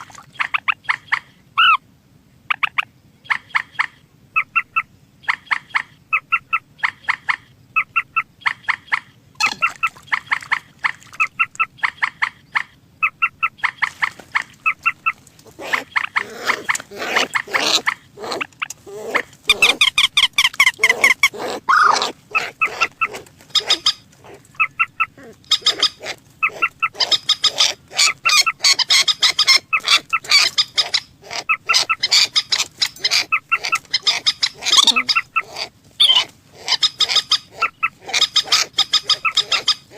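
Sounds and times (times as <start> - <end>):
rail birds calling: 0.0 - 39.9.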